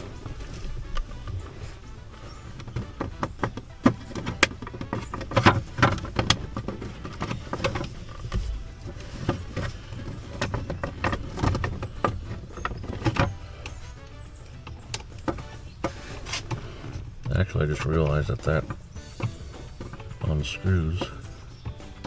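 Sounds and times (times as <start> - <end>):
plastic clicks knocks and rattles: 0.2 - 22.0.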